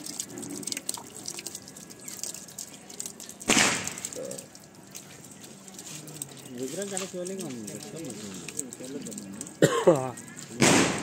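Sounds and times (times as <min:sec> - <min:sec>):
fountain water falling into basin: 0:00.0 - 0:11.0
water dripping and splashing: 0:00.0 - 0:11.0.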